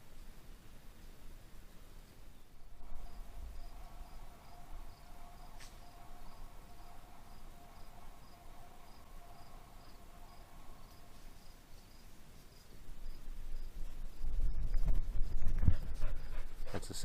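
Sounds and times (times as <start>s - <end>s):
faint steady hum: 0.0s - 17.0s
crickets chirping: 2.4s - 16.4s.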